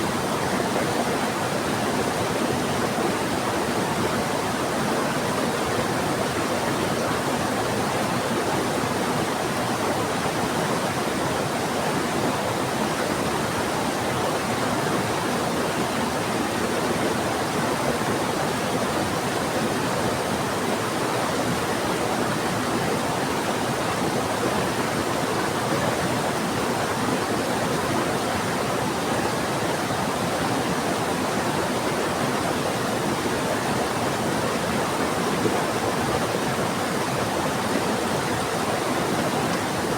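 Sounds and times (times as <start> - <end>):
fast-flowing river: 0.0 - 39.9.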